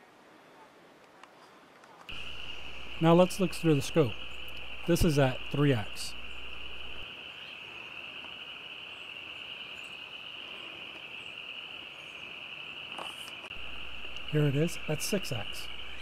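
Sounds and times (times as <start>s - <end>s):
insect chorus chirring: 2.1s - 16.0s.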